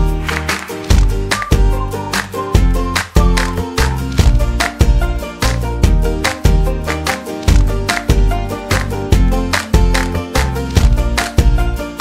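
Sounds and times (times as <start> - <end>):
upbeat background music: 0.0 - 12.0.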